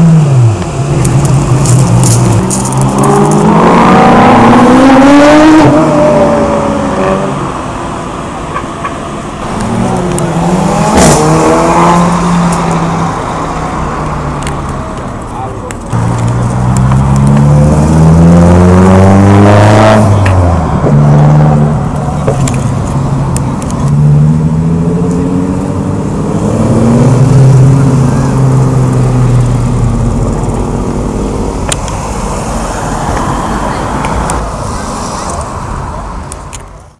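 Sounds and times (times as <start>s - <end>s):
car engine revving: 0.0s - 8.4s, 9.1s - 36.5s.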